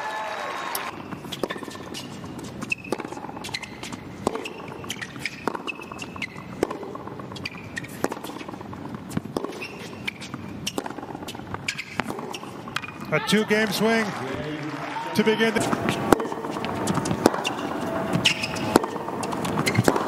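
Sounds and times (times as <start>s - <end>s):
tennis ball struck by racket: 0.8s - 13.6s, 15.1s - 20.0s
tennis ball bouncing: 0.8s - 14.2s, 14.8s - 20.0s
shoes squeaking on court: 0.8s - 20.0s.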